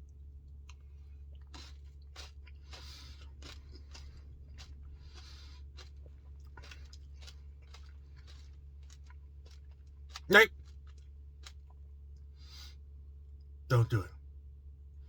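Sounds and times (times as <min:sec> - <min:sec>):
chewing and crunching: 0:00.0 - 0:12.9
low steady hum: 0:00.0 - 0:15.0.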